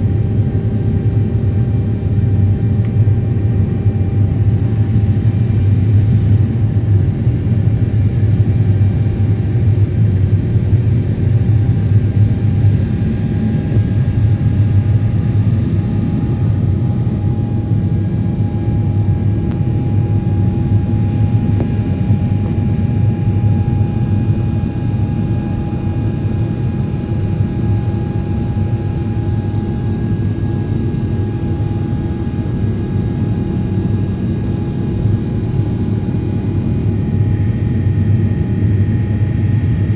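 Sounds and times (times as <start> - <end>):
jet engine low rumble: 0.0 - 39.9
jet engine whine: 0.0 - 39.9.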